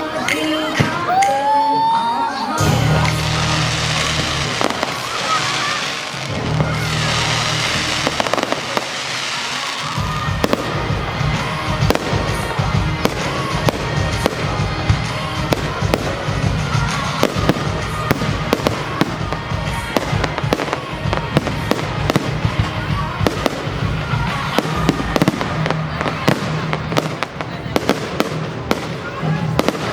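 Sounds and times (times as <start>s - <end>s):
music playing: 0.0s - 29.9s
fireworks bangs and crackles: 2.6s - 29.9s.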